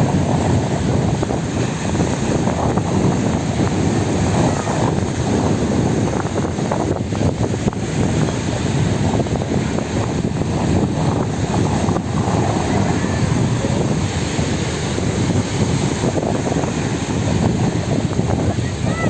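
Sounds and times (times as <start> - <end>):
sea water washing: 0.0 - 19.0
wind blowing across microphone: 0.0 - 19.0.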